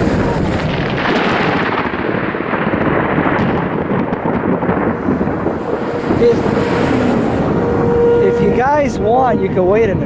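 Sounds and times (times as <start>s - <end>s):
thunder rumbling: 0.0s - 10.0s
wind noise: 0.0s - 10.0s.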